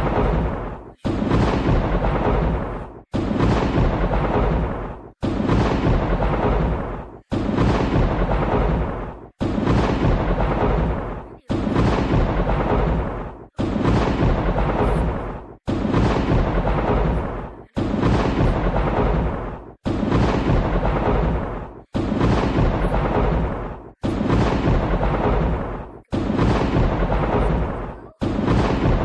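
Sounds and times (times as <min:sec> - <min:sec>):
thunder crack sound effect: 0:00.0 - 0:29.0.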